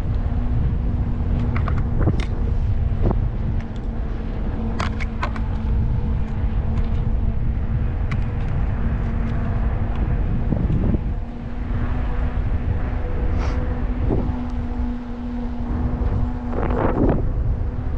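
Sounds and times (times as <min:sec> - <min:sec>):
electric motor whine: 0:00.0 - 0:17.9
wind rumbling on microphone: 0:00.0 - 0:17.9.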